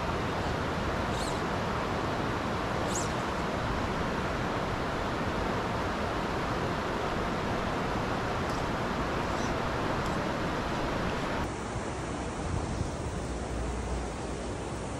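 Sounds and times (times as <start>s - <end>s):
creek water running over rocks: 0.0s - 14.9s.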